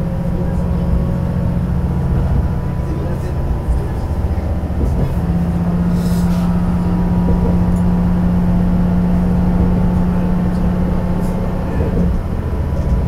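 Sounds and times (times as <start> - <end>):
train diesel engine drone: 0.0 - 13.0.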